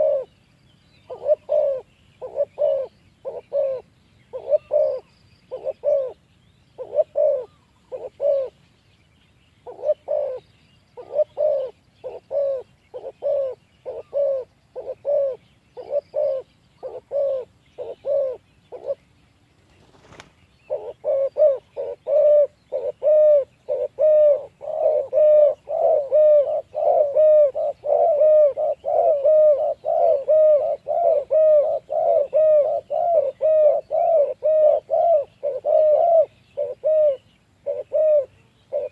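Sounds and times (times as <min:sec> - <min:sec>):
doves cooing: 0:00.0 - 0:00.4, 0:01.0 - 0:06.2, 0:06.8 - 0:08.6, 0:09.6 - 0:19.1, 0:19.8 - 0:38.9.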